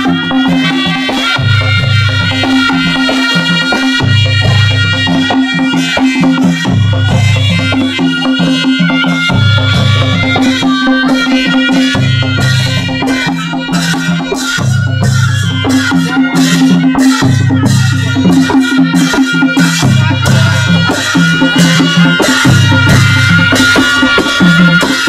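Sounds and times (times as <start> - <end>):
drums beating steady rhythm: 0.0 - 25.0.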